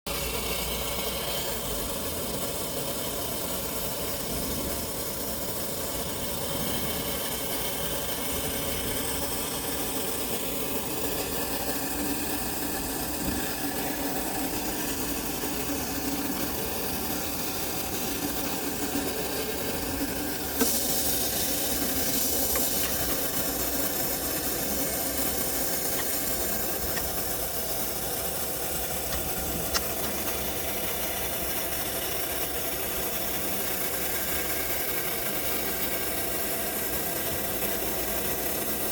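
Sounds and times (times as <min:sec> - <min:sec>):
steady hiss: 0:00.1 - 0:38.9
car engine idling: 0:00.2 - 0:34.5.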